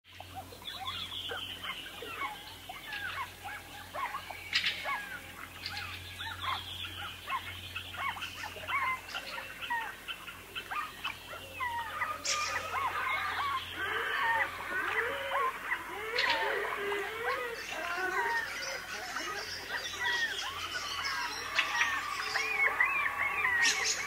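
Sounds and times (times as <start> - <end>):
birds singing and calling: 0.1 - 24.0
low steady hum: 0.1 - 24.0
sharp loud bird calls: 0.2 - 24.0.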